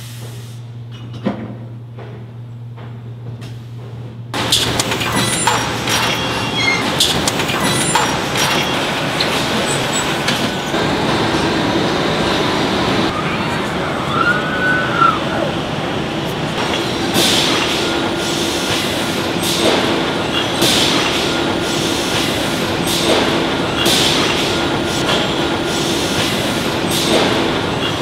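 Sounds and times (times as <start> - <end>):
machinery din with low drone: 0.0 - 28.0.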